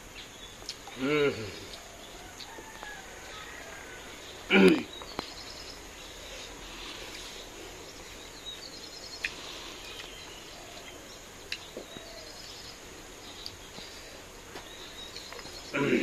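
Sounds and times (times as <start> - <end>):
faint bird chirps: 0.1 - 16.0.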